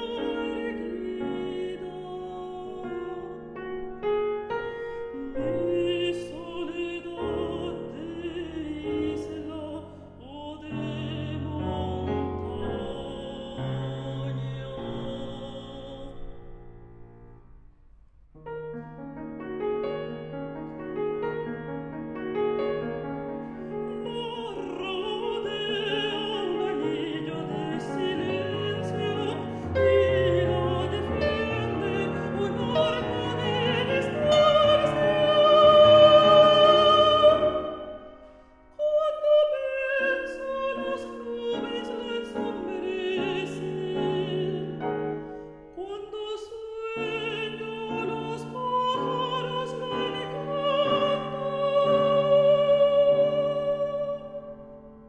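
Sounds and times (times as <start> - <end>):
woman singing with vibrato: 0.0 - 3.5, 4.9 - 16.4, 23.8 - 45.0, 45.7 - 54.8
grand piano: 0.0 - 55.0.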